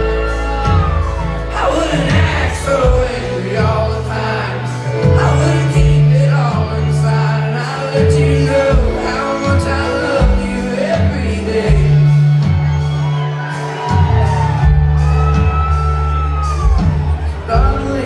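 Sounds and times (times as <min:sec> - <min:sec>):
country band playing slow song: 0:00.0 - 0:18.0
gliding lead melody: 0:00.0 - 0:18.0.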